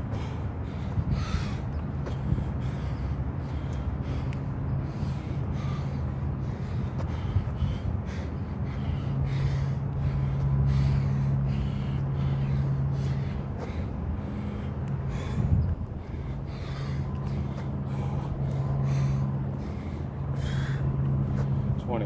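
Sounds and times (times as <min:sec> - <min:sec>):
man breathing hard: 0:00.0 - 0:21.8
steady low hum: 0:00.0 - 0:22.0.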